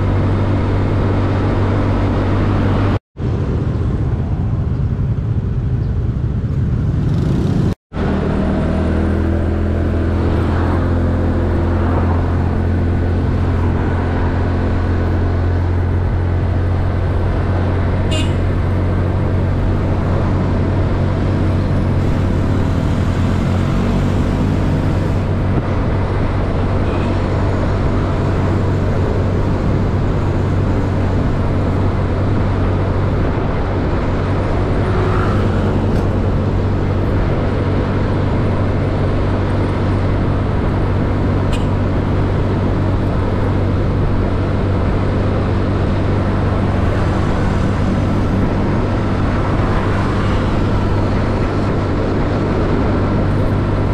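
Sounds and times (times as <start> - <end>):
road and traffic noise: 0.0 - 53.9.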